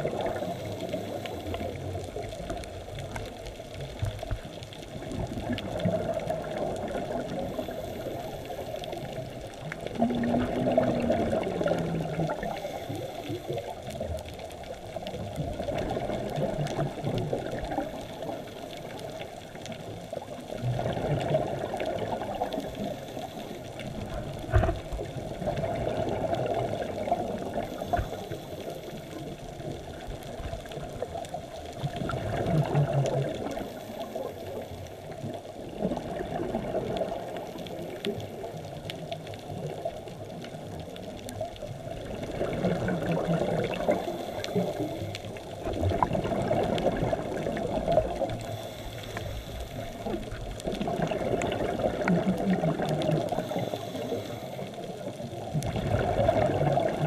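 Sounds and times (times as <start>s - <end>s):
steady underwater hiss: 0.0s - 57.0s
underwater bubbles gurgling: 0.0s - 57.0s.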